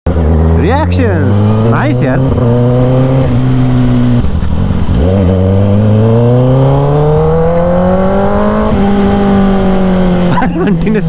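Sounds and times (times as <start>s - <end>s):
motorcycle engine accelerating: 0.1s - 11.0s.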